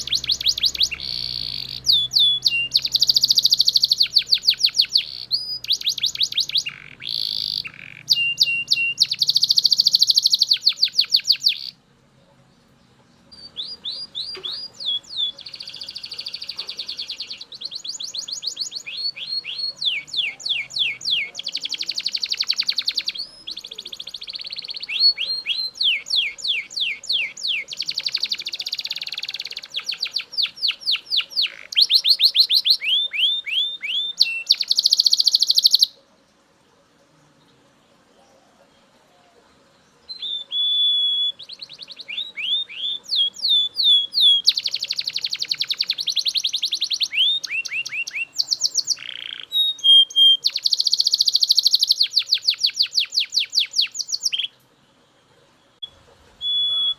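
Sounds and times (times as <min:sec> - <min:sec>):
canary singing trills: 0:00.0 - 0:36.4, 0:37.5 - 0:56.9.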